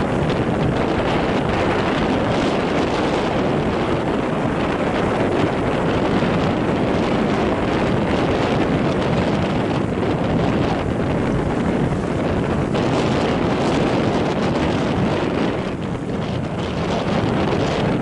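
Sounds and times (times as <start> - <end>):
strong wind blowing across microphone: 0.0 - 18.0.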